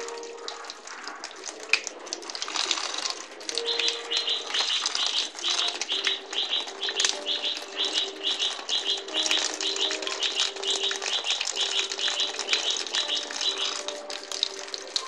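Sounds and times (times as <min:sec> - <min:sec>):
water splashing on tile: 0:00.0 - 0:15.0
rhythmic high trill: 0:02.8 - 0:15.0.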